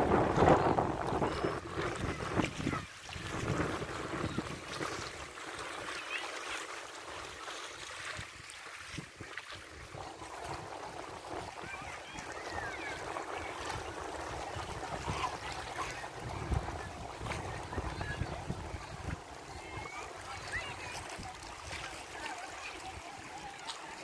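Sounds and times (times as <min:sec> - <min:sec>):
small waves washing on shore: 0:00.0 - 0:24.0.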